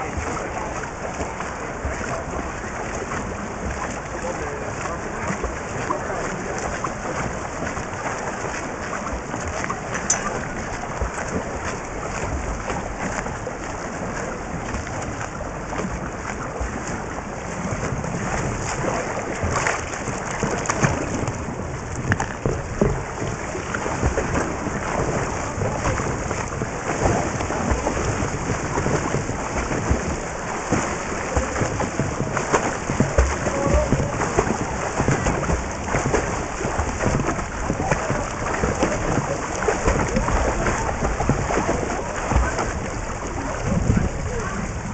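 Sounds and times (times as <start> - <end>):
crackling bubbles: 0.0 - 44.9
muffled underwater churning: 0.0 - 44.9.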